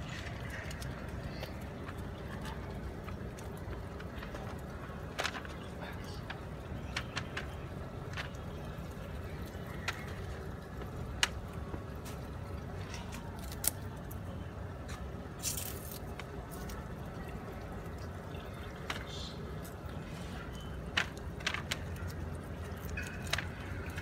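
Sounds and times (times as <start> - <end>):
street traffic hum: 0.0 - 24.0.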